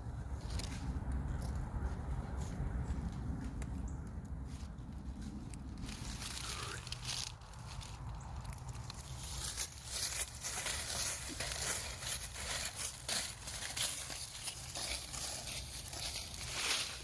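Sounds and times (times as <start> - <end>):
rustling and crackling: 0.4 - 17.0.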